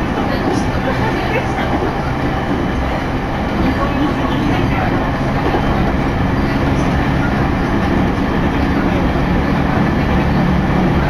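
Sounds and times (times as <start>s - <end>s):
train wheels and motors rumbling: 0.0s - 11.0s.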